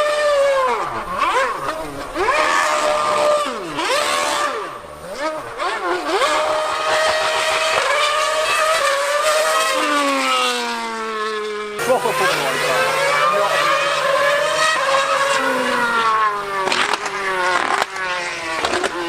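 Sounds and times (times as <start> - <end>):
racing car engine revving: 0.0 - 19.0.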